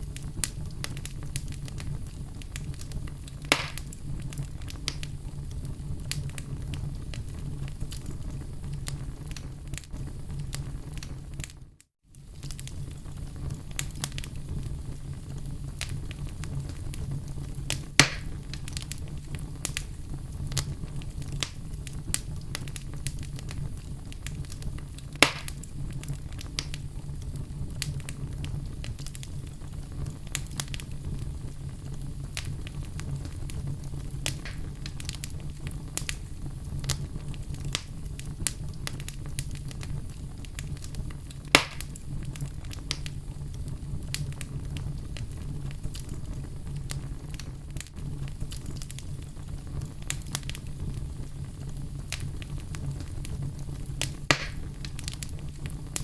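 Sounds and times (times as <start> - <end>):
fire crackles and pops: 0.0 - 56.0
low rumble of flames: 0.0 - 56.0.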